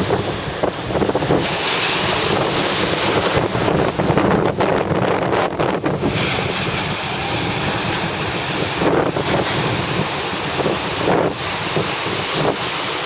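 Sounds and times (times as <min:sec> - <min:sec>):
small surf breaking: 0:00.0 - 0:13.0
wind buffeting microphone: 0:00.0 - 0:13.0.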